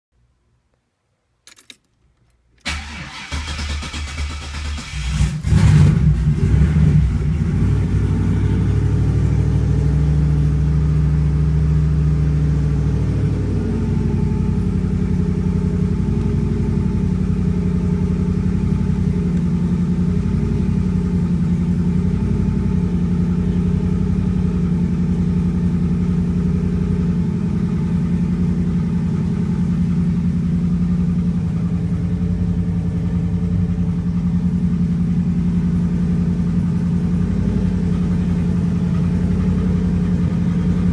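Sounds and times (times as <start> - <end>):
car engine idling: 2.6 - 40.9.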